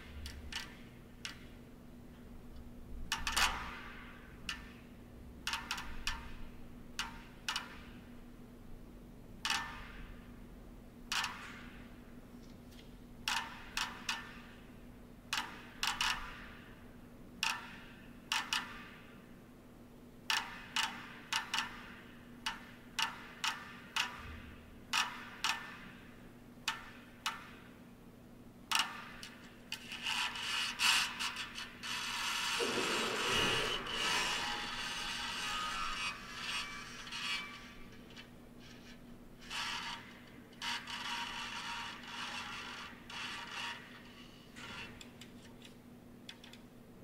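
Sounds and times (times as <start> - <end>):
steady faint hum: 0.0 - 47.0.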